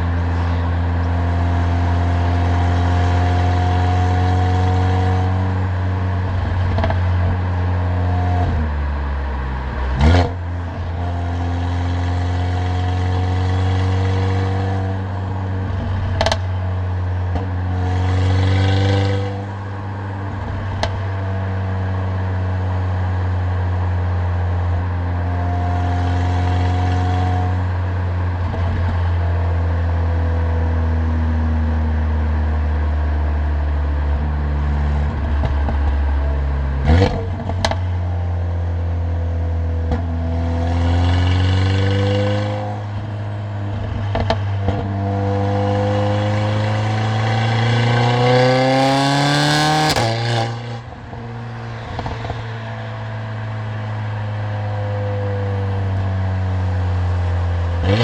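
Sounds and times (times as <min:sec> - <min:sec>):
car engine and exhaust: 0:00.0 - 0:58.0.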